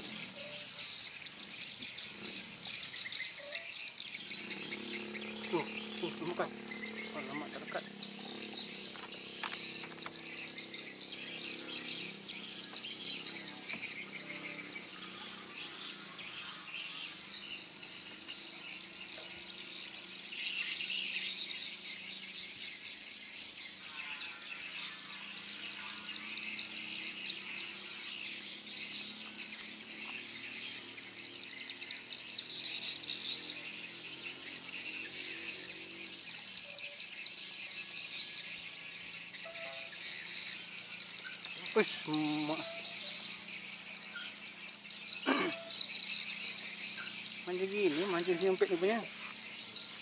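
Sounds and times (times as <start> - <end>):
insects and birds chirping: 0.0 - 50.0.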